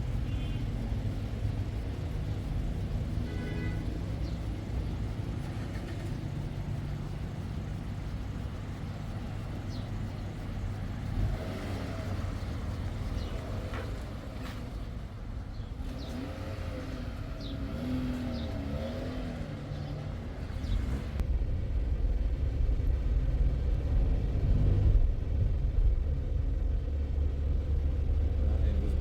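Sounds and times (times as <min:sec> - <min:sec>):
low vehicle engine drone: 0:00.0 - 0:29.0.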